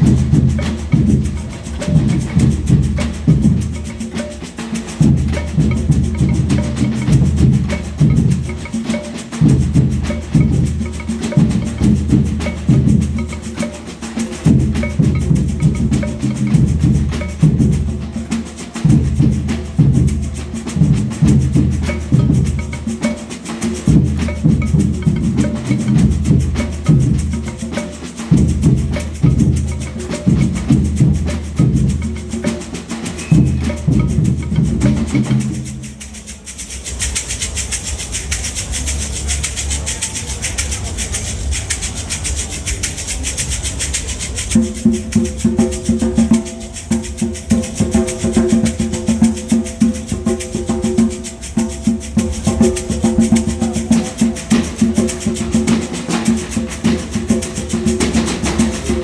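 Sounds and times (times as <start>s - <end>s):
bass drums: 0.0s - 4.2s, 4.8s - 13.7s, 14.3s - 59.0s
snare drums: 0.0s - 59.0s.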